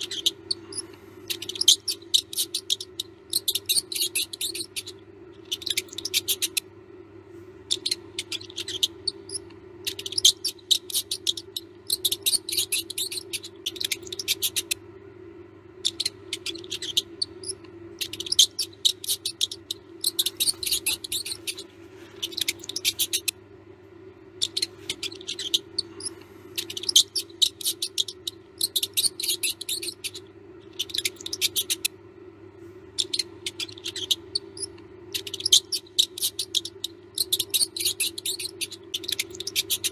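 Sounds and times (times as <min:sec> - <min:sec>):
mouse squeaking: 0:00.0 - 0:06.7, 0:07.6 - 0:14.8, 0:15.8 - 0:23.4, 0:24.3 - 0:32.0, 0:32.9 - 0:39.9
steady low hum: 0:00.0 - 0:39.9.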